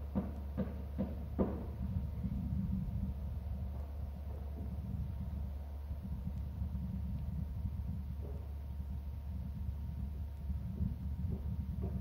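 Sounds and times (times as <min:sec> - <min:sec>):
faint steady hum: 0:00.0 - 0:12.0
low outdoor rumble: 0:00.0 - 0:12.0.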